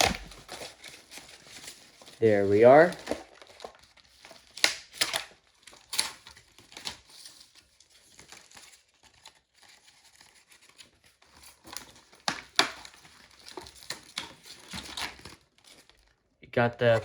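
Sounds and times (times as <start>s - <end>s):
packaging crinkling and tearing: 0.0s - 16.3s.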